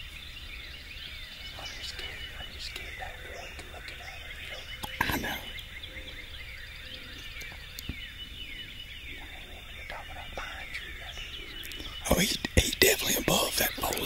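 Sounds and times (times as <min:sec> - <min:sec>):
high bird trill: 0:00.0 - 0:14.0
songbirds chirping: 0:00.0 - 0:14.0.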